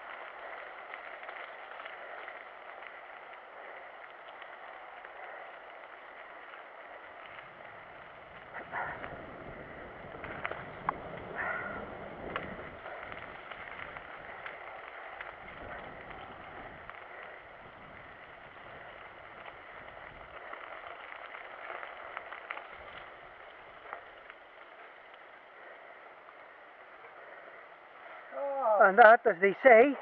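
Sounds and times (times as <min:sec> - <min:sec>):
small clicks and rattles: 0:00.0 - 0:28.2
bike tyre and wind hiss: 0:00.0 - 0:28.9.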